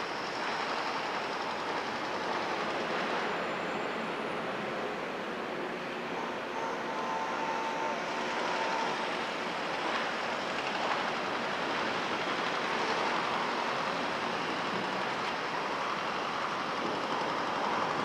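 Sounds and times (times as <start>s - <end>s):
distant heavy machinery: 0.0s - 18.0s
distant traffic: 0.0s - 18.0s.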